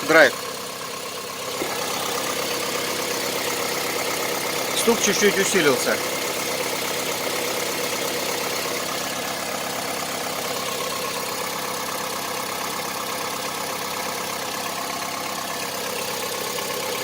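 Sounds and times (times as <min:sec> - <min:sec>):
car engine knocking: 0:00.0 - 0:17.0.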